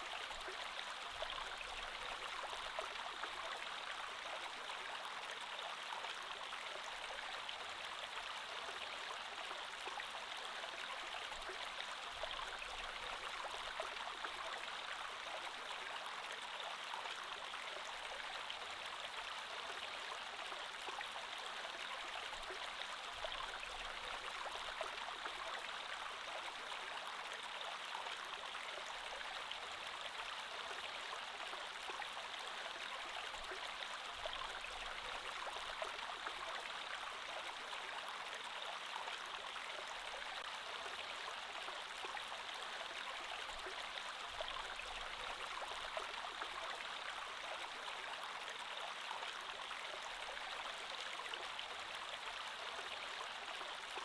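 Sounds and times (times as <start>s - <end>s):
creek water flowing over stones: 0.0s - 54.0s.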